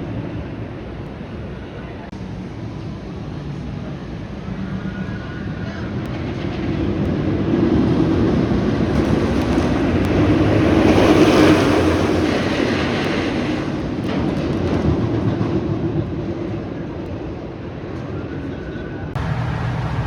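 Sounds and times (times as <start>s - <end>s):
roller coaster on steel track: 0.0s - 20.0s.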